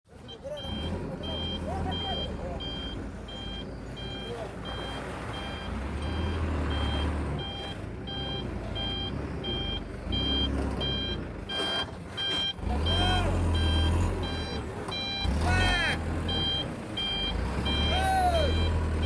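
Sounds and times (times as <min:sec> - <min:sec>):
diesel engine hum: 0:00.1 - 0:19.0
truck reversing alarm beeping: 0:00.1 - 0:19.0.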